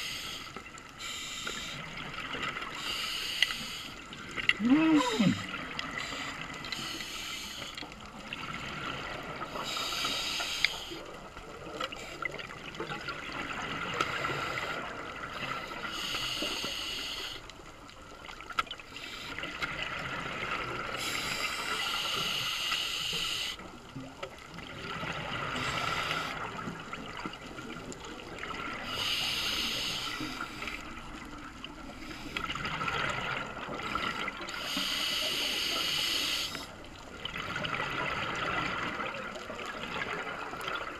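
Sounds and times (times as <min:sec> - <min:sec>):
exhaled air bubbling underwater: 0:00.0 - 0:40.9
steady underwater hiss: 0:00.0 - 0:40.9.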